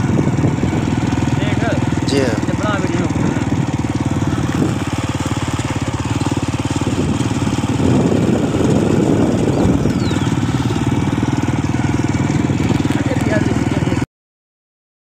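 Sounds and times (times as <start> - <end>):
road and wind noise: 0.0 - 14.0
motorcycle engine running: 0.0 - 14.1.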